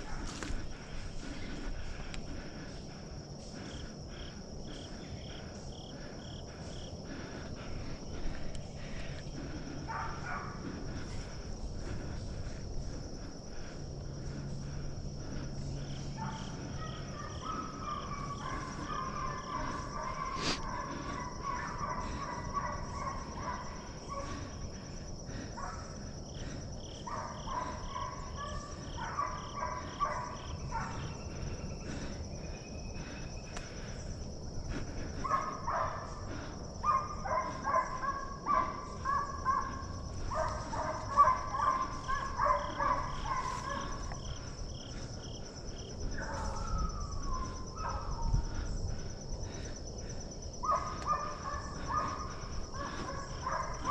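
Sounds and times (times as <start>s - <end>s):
distant hounds baying: 0.0s - 53.9s
high insect trill: 0.0s - 53.9s.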